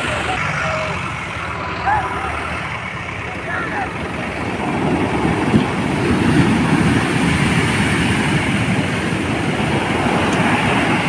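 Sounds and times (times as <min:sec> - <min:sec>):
heavy surf breaking: 0:00.0 - 0:11.0.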